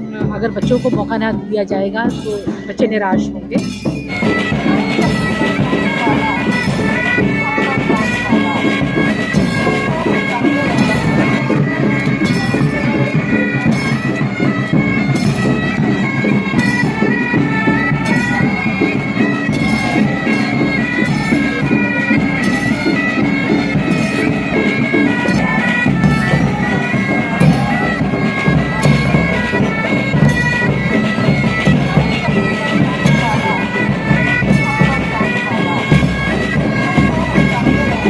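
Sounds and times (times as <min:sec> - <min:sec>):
bagpipes playing a march: 0:00.0 - 0:38.0.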